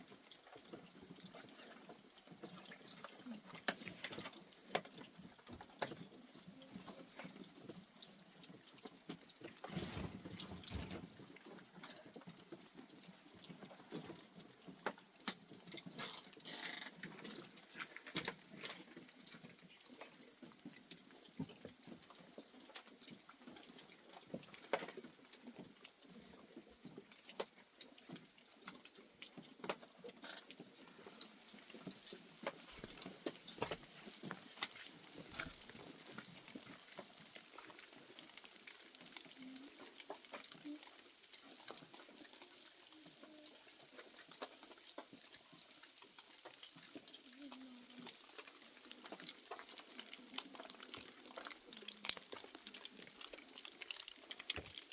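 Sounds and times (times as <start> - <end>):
light tapping and pattering: 0.0 - 54.9.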